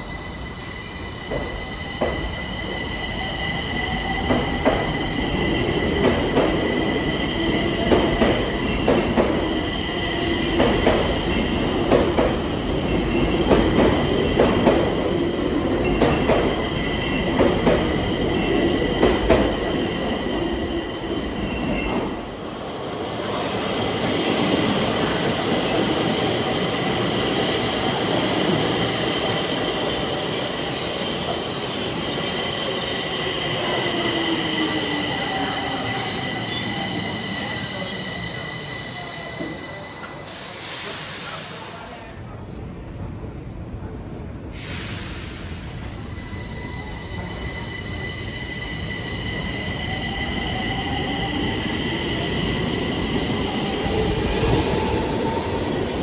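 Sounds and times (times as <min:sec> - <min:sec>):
metro train whine: 0:00.0 - 0:56.0.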